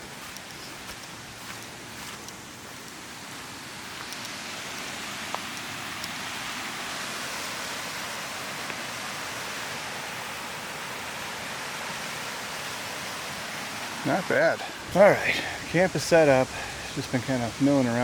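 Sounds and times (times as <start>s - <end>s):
waterfall rushing: 2.4s - 18.0s.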